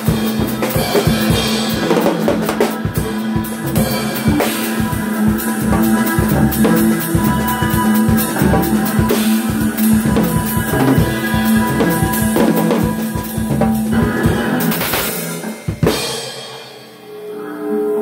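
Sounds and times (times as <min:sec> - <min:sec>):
fast drum kit playing: 0:00.0 - 0:17.0
sustained backing music: 0:00.0 - 0:17.3.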